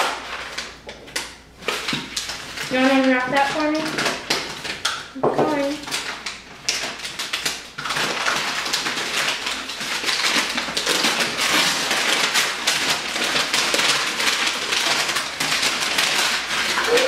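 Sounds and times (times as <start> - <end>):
paper crinkling and tearing: 0.0 - 17.0.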